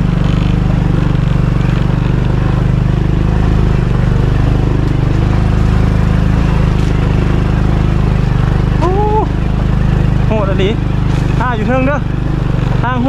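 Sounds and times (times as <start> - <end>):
vehicle engine running under load: 0.0 - 13.0.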